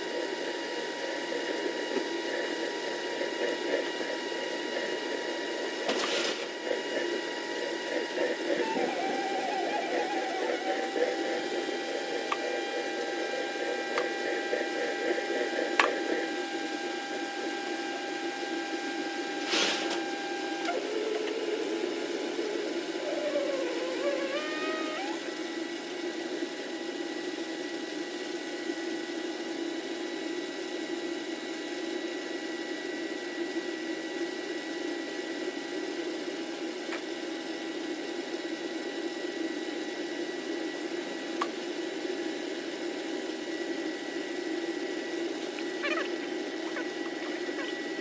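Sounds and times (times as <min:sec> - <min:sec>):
pump whirring hum and whine: 0:00.0 - 0:48.0.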